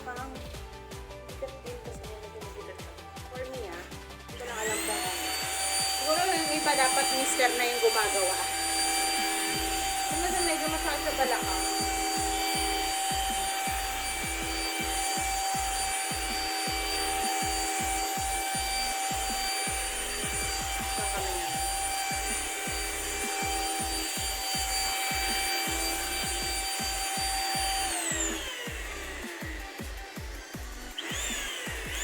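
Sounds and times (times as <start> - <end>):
handheld vacuum whine: 0.4 - 32.0
vacuum scraping over fabric: 3.7 - 32.0
motor winding down: 3.9 - 32.0.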